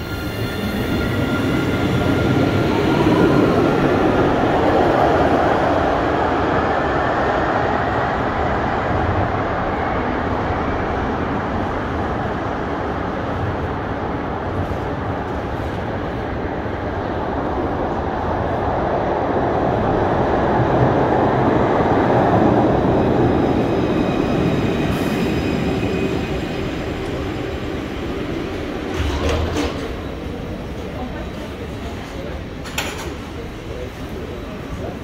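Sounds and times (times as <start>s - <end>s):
tram rumbling: 0.0s - 35.0s.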